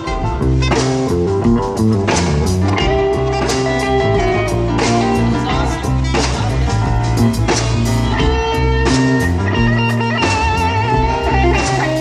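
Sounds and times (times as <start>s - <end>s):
instrumental rock band playing: 0.0s - 12.0s.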